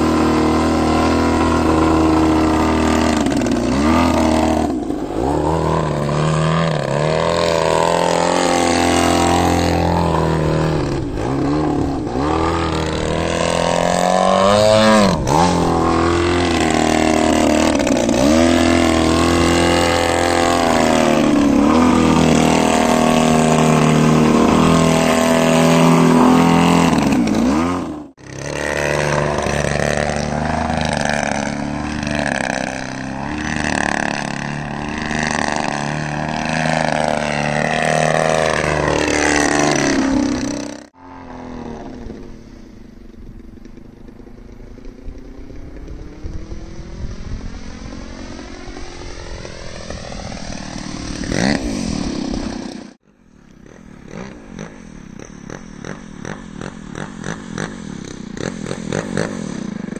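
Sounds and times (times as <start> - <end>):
model plane engine revving: 0.0 - 53.0, 53.6 - 59.9.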